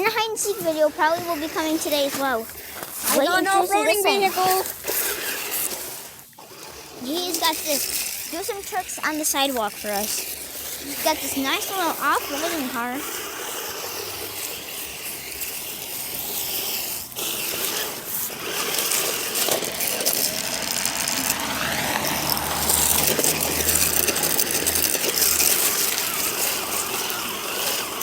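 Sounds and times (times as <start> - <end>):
rc car motor whirring: 0.0 - 28.0.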